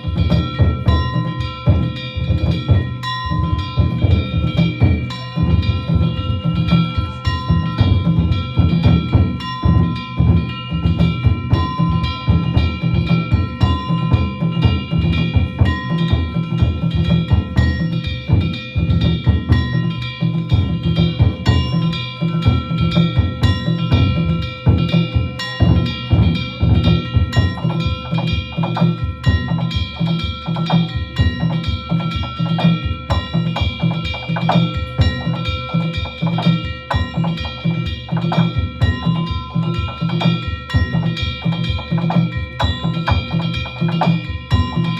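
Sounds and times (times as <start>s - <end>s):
metal gongs ringing: 0.0s - 44.9s
taiko drum beating: 0.0s - 44.9s.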